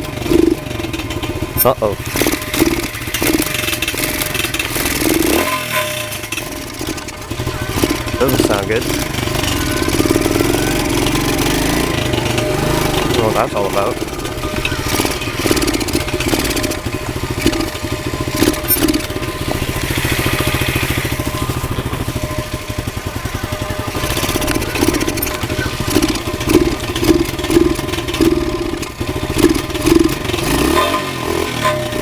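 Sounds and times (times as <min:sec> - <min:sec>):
small motorbike engine running roughly: 0:00.0 - 0:32.0.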